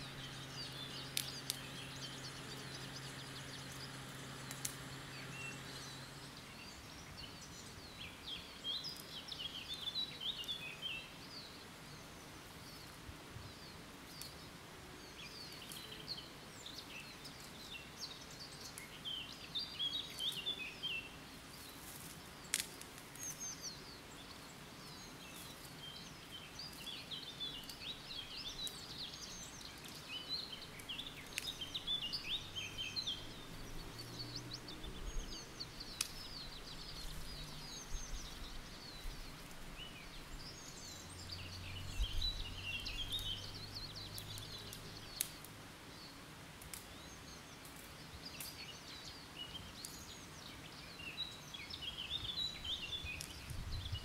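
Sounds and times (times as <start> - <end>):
songbirds trilling and chirping: 0.0 - 54.0.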